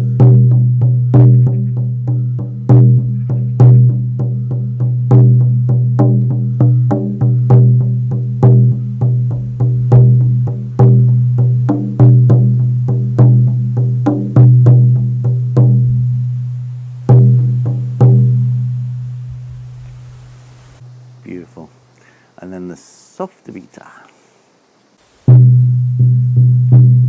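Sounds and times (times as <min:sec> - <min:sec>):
frame drum beats: 0:00.0 - 0:21.4, 0:25.2 - 0:27.0.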